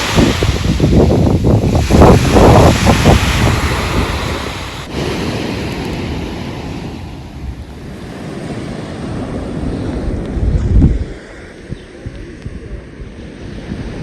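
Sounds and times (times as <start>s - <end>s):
sea waves washing on shore: 0.0s - 14.0s
wind buffeting microphone: 0.0s - 14.0s.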